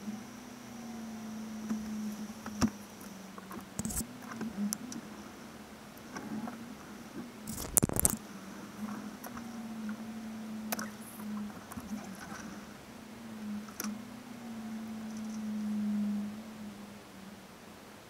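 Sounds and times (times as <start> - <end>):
vehicle interior hum: 0.9 - 17.6.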